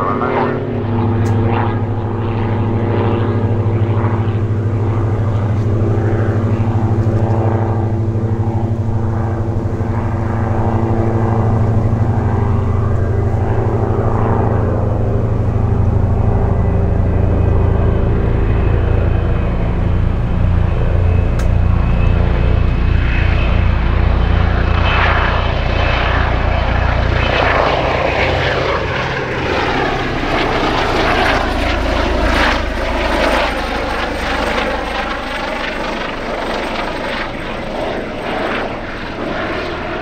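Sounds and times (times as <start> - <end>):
helicopter rotor thrum: 0.0 - 40.0.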